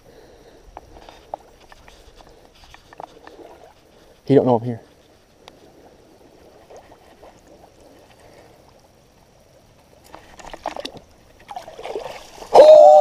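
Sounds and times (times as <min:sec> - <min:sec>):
pond water sloshing around legs: 0:00.8 - 0:04.2, 0:05.0 - 0:12.6.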